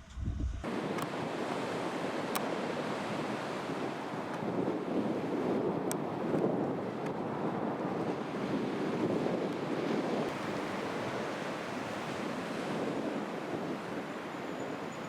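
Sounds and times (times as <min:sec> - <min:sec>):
wind blowing on microphone: 0:00.0 - 0:15.0
waves washing onto a beach: 0:00.7 - 0:15.0.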